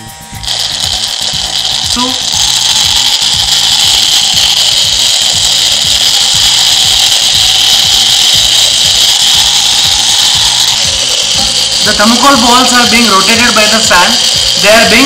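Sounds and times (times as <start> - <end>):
small motor fan whirring: 0.0 - 15.0
foam balls swirling in a jar: 0.4 - 15.0.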